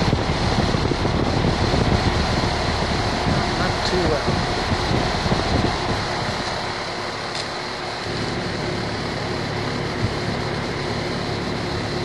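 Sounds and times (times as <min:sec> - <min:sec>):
air conditioner fan running: 0:00.0 - 0:12.0.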